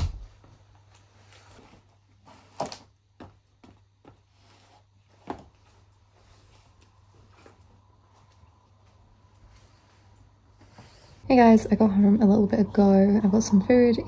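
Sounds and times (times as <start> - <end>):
clothing and bag rustling: 0.0 - 11.3.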